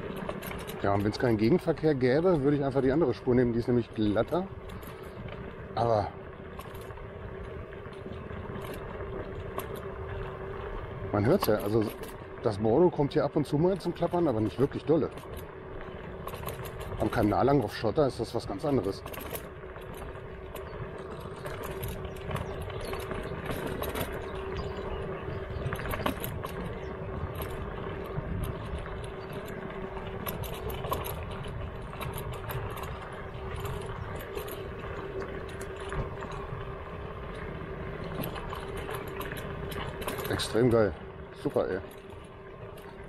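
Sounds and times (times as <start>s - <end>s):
electric scooter motor whine: 0.0s - 43.0s
scooter deck rattling: 0.0s - 43.0s
tyre and road rumble: 0.0s - 43.0s.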